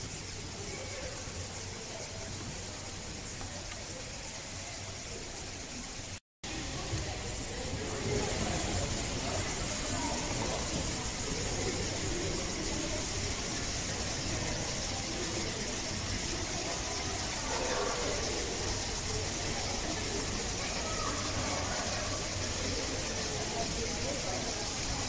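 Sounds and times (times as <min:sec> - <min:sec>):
even hiss: 0:00.0 - 0:25.0
murmur of distant voices: 0:00.0 - 0:25.0.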